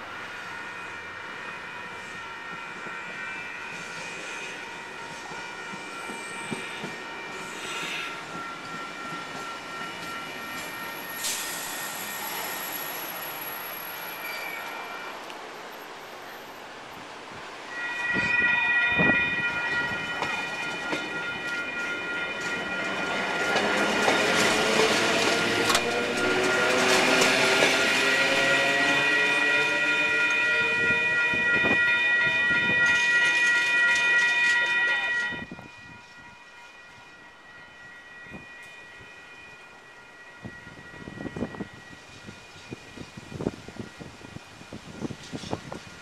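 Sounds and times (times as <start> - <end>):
electric train passing: 0.0 - 46.0
faint distant train: 0.0 - 46.0
level crossing bells ringing: 0.2 - 14.9, 17.7 - 44.8.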